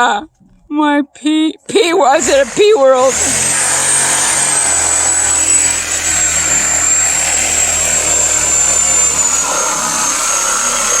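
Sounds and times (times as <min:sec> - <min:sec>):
power tool whining: 0:01.7 - 0:11.0.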